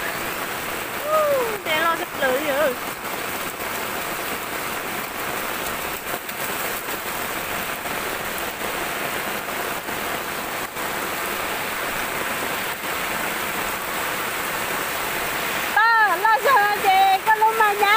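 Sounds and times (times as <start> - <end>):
floodwater rushing: 0.0 - 17.9
heavy rain falling: 0.0 - 17.9.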